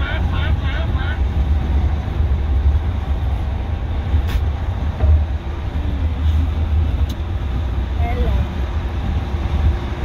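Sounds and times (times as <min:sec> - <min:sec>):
car engine rumble inside cabin: 0:00.0 - 0:10.0.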